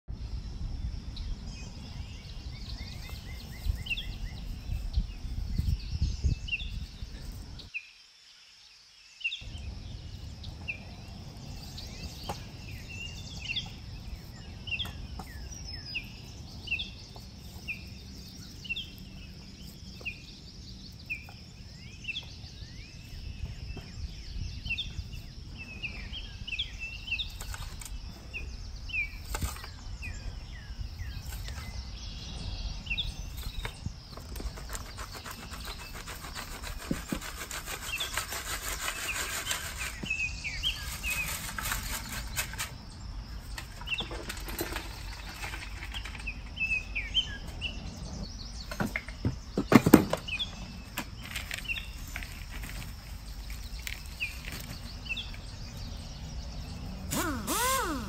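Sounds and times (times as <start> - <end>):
small birds chirping: 0.1 - 58.0.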